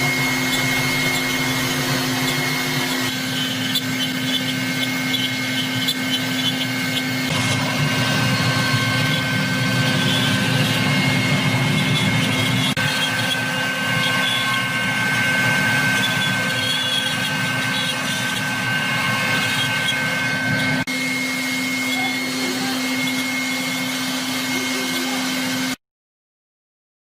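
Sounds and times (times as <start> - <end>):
router spindle whining: 0.0 - 25.8
wood cutting noise: 0.0 - 25.8.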